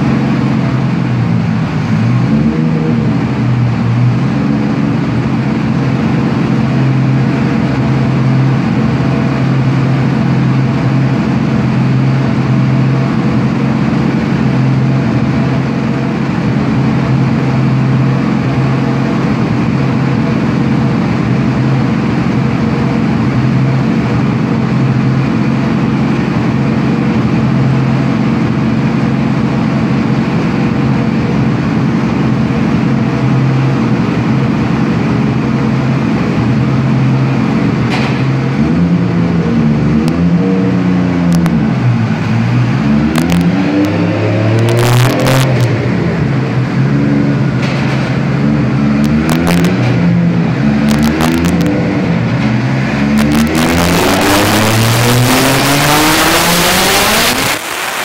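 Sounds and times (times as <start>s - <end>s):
turbocharged car engine running: 0.0s - 58.0s.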